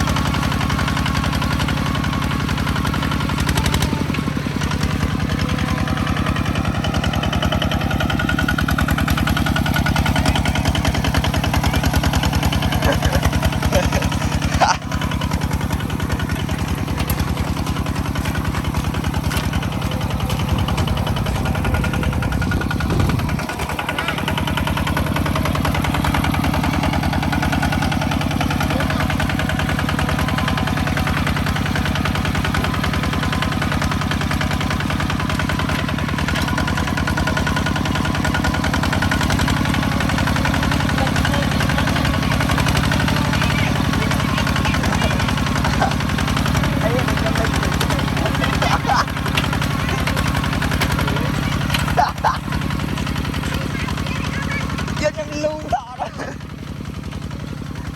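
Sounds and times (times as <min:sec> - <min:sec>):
farm machine engine running: 0:00.0 - 0:57.9.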